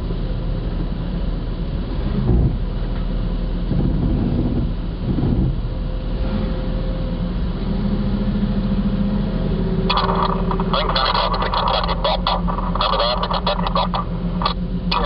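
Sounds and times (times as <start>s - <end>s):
engine rumbling at low speed: 0.0s - 15.0s.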